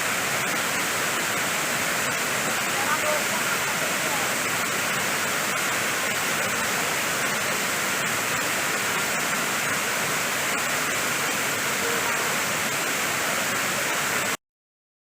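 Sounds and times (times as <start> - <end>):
waterfall pouring: 0.0 - 14.4.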